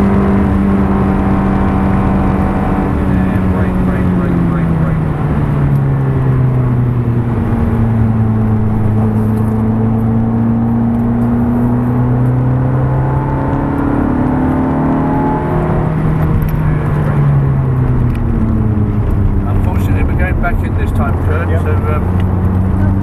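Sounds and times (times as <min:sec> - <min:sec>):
car engine from inside cabin: 0:00.0 - 0:23.0
road and wind noise: 0:00.0 - 0:23.0.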